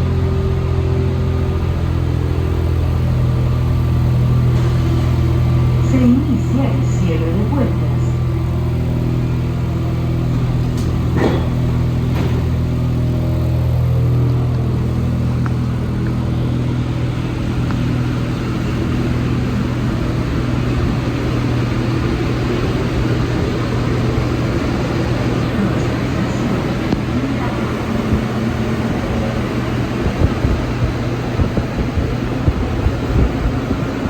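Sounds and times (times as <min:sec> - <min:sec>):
metro car low hum: 0:00.0 - 0:34.0.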